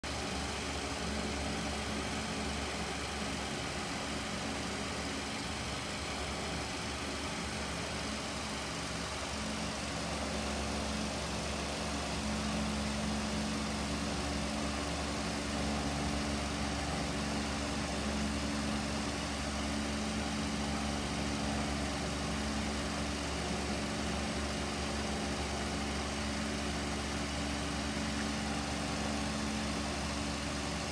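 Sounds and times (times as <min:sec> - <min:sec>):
fan motor hum: 0:00.1 - 0:30.9.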